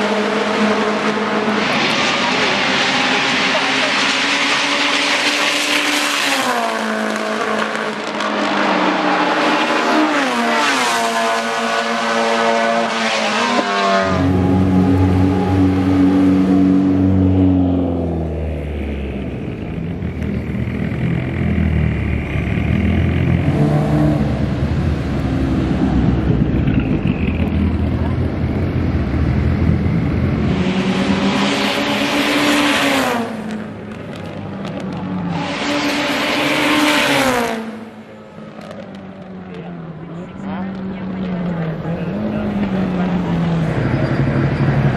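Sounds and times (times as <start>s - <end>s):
race car engine at high revs: 0.0s - 44.9s.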